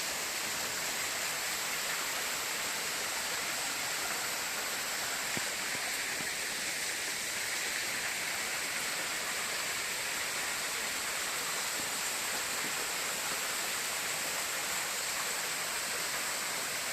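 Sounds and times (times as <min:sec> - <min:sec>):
falling water rushing: 0:00.0 - 0:16.9.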